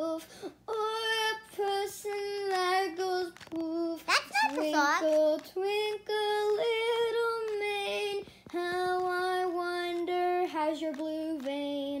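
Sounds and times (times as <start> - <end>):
high voice singing lullaby: 0.0 - 12.0.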